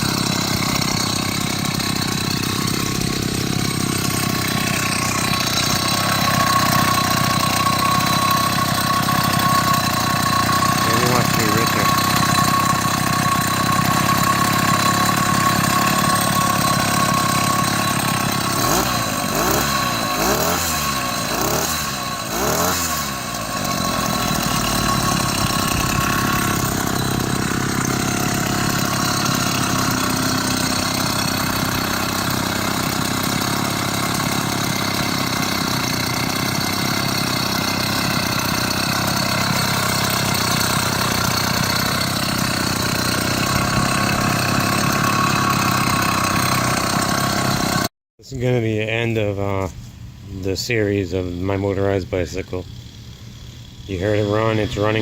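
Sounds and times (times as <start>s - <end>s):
two-stroke engine revving: 0.0s - 47.9s, 51.1s - 55.0s.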